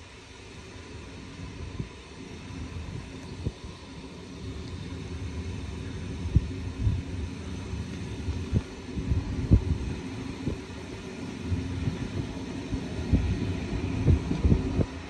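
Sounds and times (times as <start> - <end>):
train coach rumble: 0.9 - 15.0.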